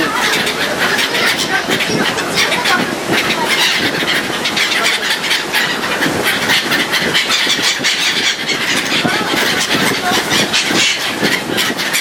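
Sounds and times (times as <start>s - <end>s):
ship engine: 0.0s - 12.0s
wind on microphone: 0.0s - 12.0s.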